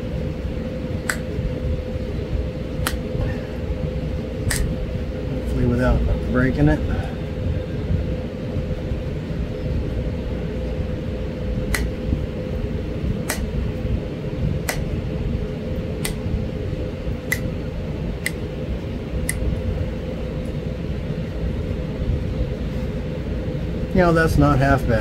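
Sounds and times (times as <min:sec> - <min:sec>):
low rumble and hum: 0:00.0 - 0:25.0.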